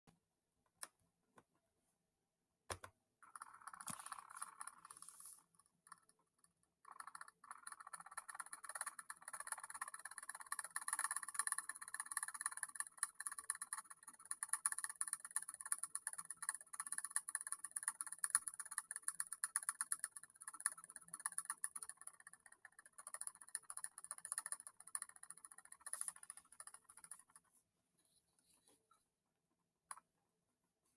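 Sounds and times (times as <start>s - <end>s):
computer keyboard typing: 2.7s - 27.6s.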